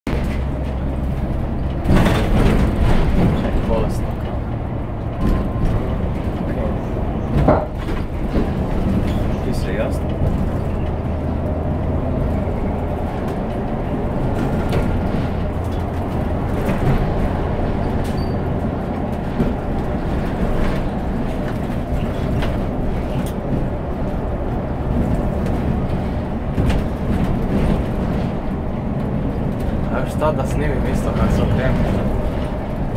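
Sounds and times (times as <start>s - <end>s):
bus diesel engine droning: 0.1s - 32.9s.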